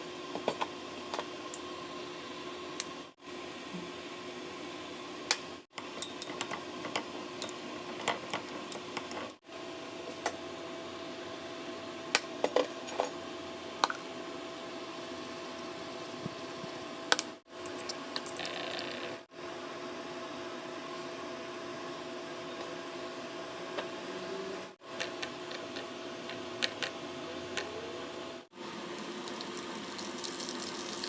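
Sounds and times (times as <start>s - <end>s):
appliance hum: 0.0s - 31.0s.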